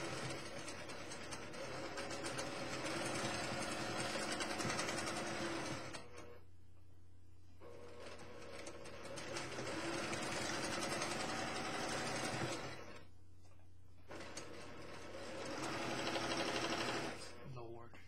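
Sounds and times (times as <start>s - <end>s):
sewing machine stitching rapidly: 0.0s - 6.2s, 7.7s - 13.1s, 14.1s - 17.4s.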